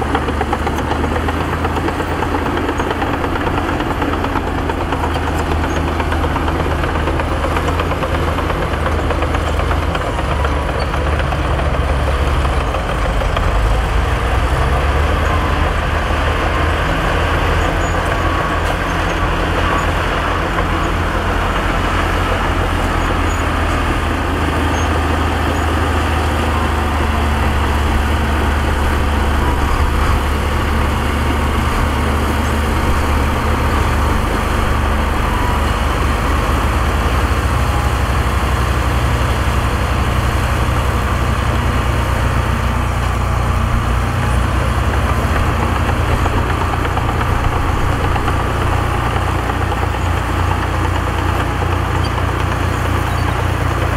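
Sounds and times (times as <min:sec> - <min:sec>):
heavy diesel engines rumbling: 0:00.0 - 0:53.9.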